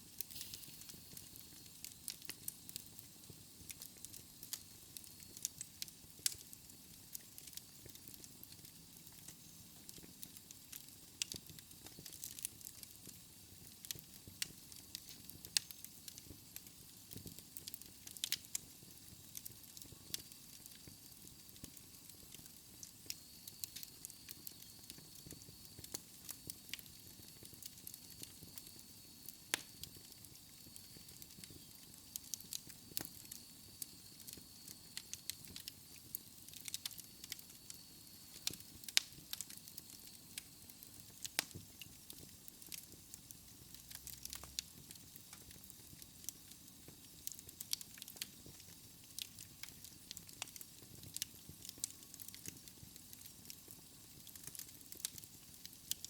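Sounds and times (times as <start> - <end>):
soft steady hiss: 0.0 - 56.0
wood fire crackling and popping: 0.0 - 56.0.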